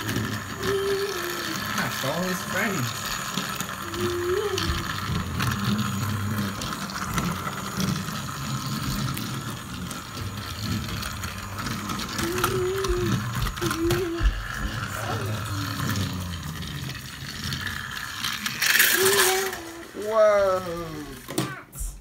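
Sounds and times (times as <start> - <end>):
toy train motor whirring: 0.0 - 22.0.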